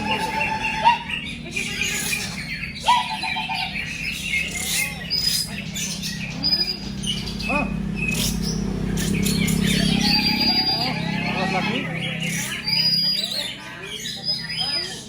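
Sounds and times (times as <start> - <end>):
steady low hum: 0.0 - 14.8
songbirds chirping and whistling: 0.0 - 15.0.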